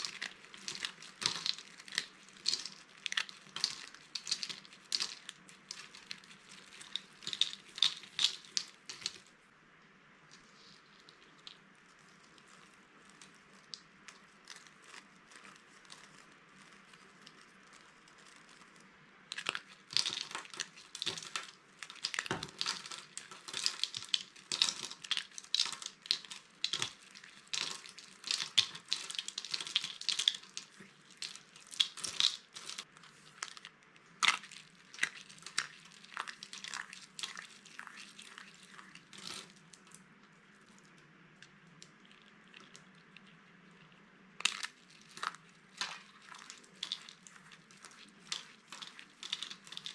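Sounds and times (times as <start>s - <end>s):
bar soap crunching and crackling: 0.0s - 9.4s, 10.4s - 49.9s.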